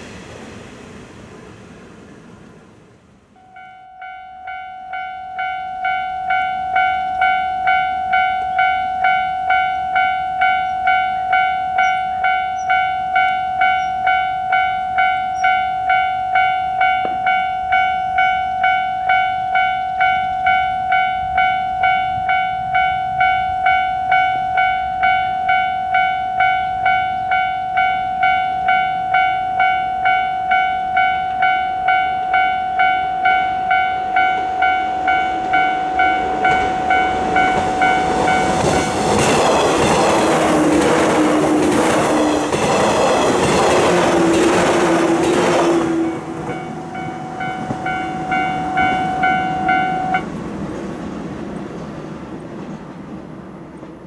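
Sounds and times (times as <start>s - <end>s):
railroad crossing alarm ringing: 3.4s - 50.7s.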